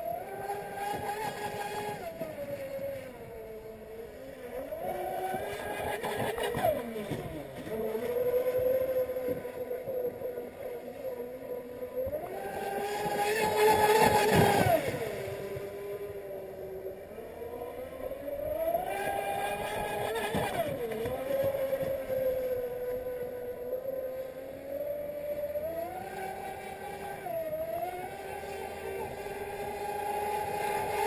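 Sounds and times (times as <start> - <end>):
model boat motor whining: 0.0 - 31.0.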